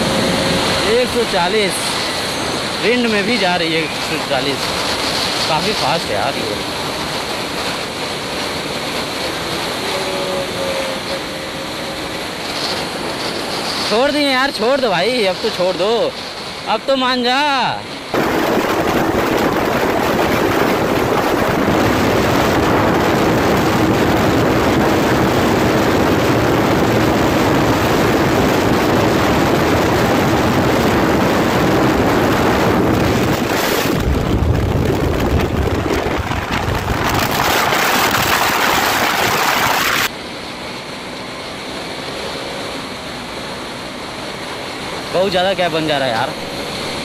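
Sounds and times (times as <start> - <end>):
motorcycle engine drone: 0.0 - 4.7, 6.3 - 14.0, 18.1 - 47.0
heavy wind rush on microphone: 0.0 - 47.0.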